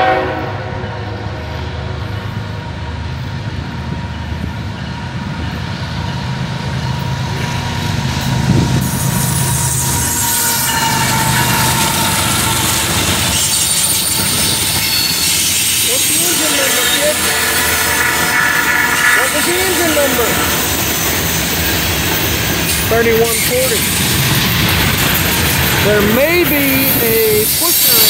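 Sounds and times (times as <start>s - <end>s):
diesel locomotive rumble: 0.0s - 28.0s
train wheel squeal: 3.8s - 28.0s.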